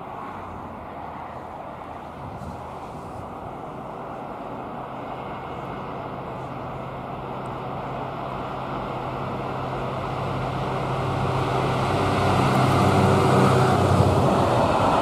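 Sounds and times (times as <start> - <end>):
locomotive engine drone: 0.0 - 15.0
rail rumble: 0.0 - 15.0.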